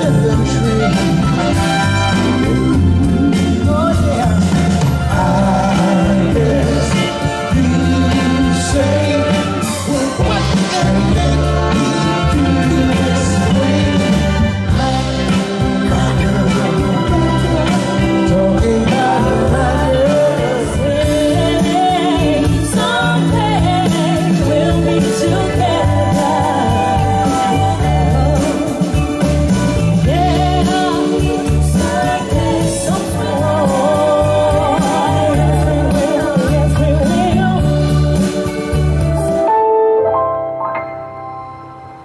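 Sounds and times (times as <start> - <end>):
lead singer: 0.0 - 39.6
live soul band playing: 0.0 - 42.0.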